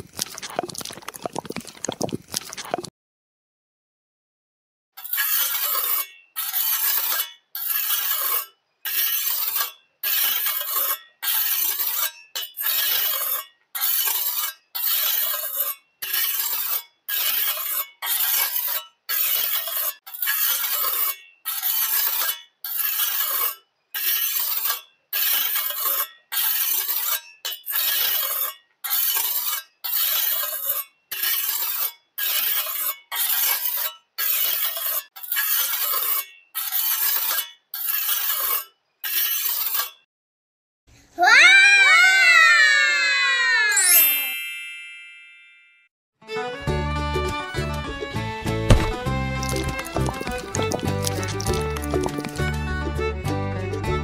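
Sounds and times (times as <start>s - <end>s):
trowel scraping wet cement: 0.0s - 2.9s, 5.0s - 40.1s, 47.6s - 52.8s.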